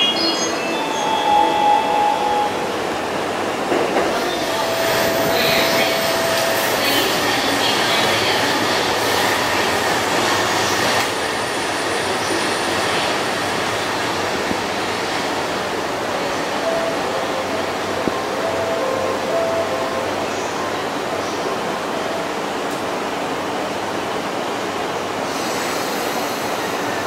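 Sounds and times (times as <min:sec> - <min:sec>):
railway station noise: 0:00.0 - 0:27.0.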